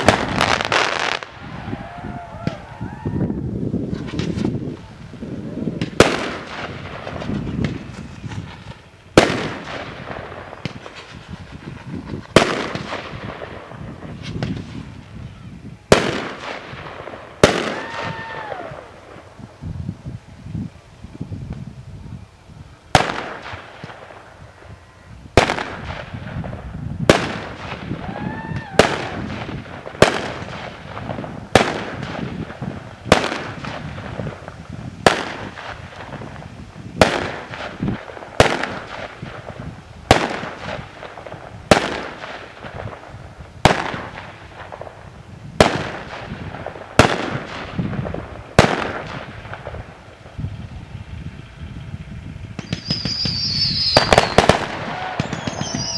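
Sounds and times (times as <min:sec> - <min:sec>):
fireworks bangs: 0:00.0 - 0:20.2, 0:22.7 - 0:55.9.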